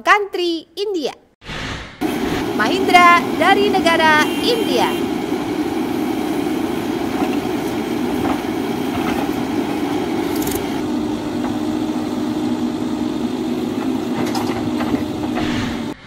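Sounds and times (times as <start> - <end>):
backhoe diesel engine running: 2.0 - 16.0.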